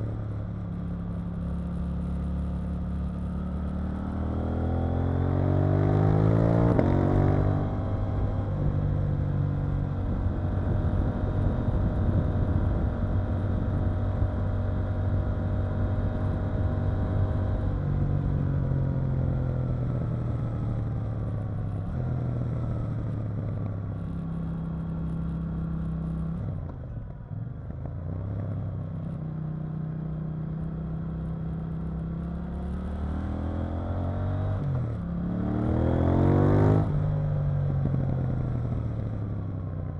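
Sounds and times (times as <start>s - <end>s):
motorcycle engine revving: 0.0s - 26.6s, 27.7s - 39.9s.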